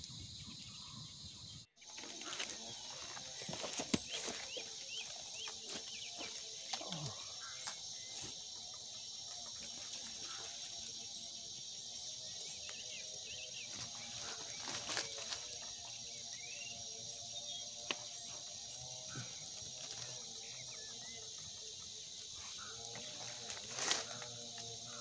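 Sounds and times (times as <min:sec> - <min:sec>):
crickets buzzing: 0:00.0 - 0:25.0.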